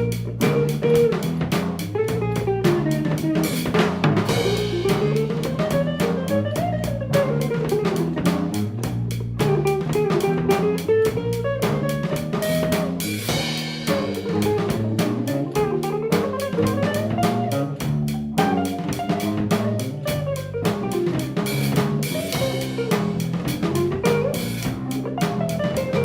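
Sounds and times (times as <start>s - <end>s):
drum kit beat: 0.0s - 26.0s
guitar: 0.0s - 26.0s.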